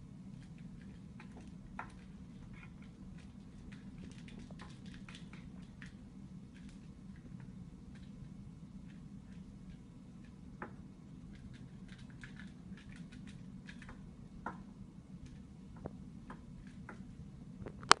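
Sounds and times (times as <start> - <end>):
low room hum: 0.0 - 18.0
light clicks and taps: 0.3 - 18.0.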